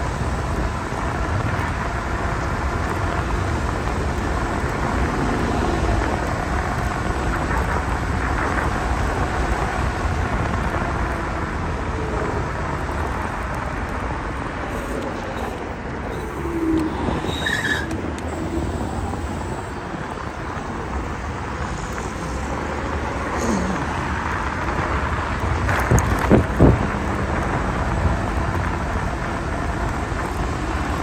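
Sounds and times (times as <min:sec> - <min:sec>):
road traffic: 0:00.0 - 0:31.0
scooter tyre rumble on asphalt: 0:00.0 - 0:31.0
wind noise on microphone: 0:00.0 - 0:31.0.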